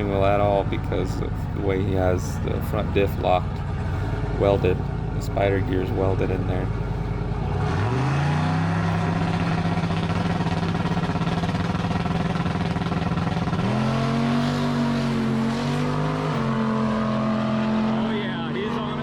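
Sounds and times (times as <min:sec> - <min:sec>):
pickup truck engine running hard: 0:00.0 - 0:19.0.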